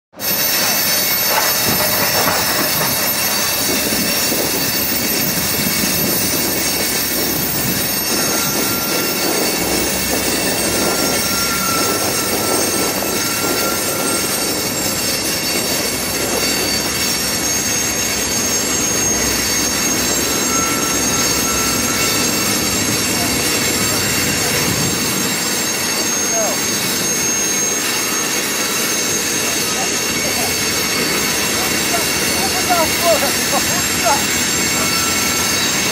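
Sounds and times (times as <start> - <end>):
freight train rolling on rails: 0.1 - 35.9
faint high wheel squeals: 0.2 - 35.9.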